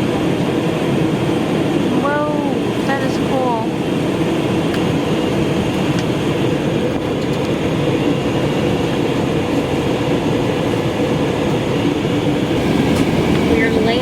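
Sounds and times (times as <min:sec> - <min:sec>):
airliner cabin drone: 0:00.0 - 0:14.0.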